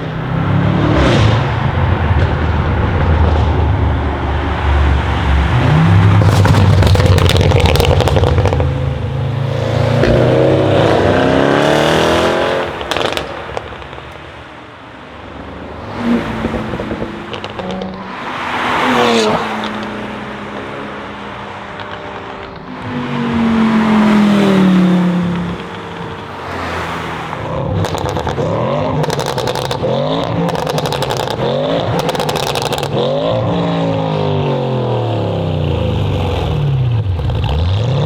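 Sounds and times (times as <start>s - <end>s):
car engine revving: 0.0s - 38.0s
exhaust crackles: 0.0s - 38.0s.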